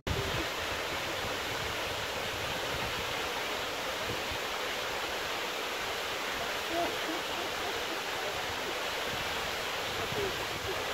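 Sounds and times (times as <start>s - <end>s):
waterfall rushing over rock: 0.1s - 10.9s.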